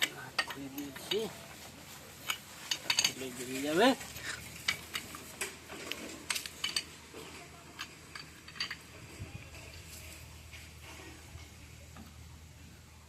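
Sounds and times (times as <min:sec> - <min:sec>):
metal tools clinking and tapping: 0:00.0 - 0:12.1.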